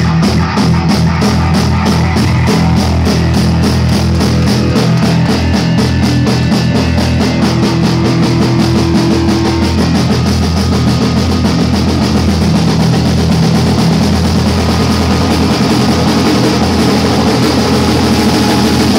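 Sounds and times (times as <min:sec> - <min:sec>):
bass guitar: 0:00.0 - 0:18.9
drum kit and cymbals: 0:00.0 - 0:18.9
electric guitar: 0:00.0 - 0:18.9.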